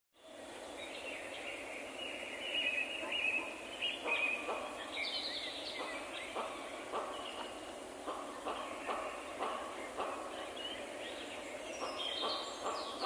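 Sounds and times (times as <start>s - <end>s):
outdoor background noise: 0.2s - 13.0s
birds chirping and singing: 0.4s - 13.0s.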